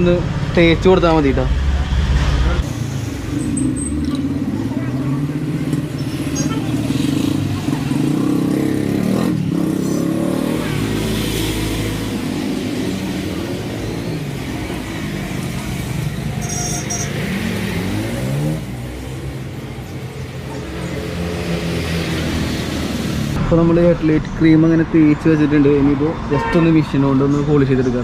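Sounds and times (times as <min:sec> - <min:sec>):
motor vehicles passing and revving: 0:00.0 - 0:28.0.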